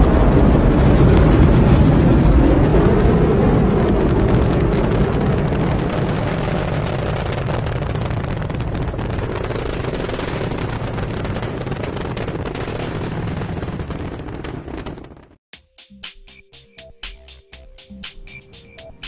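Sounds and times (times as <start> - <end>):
rocket engines roaring: 0.0 - 15.4.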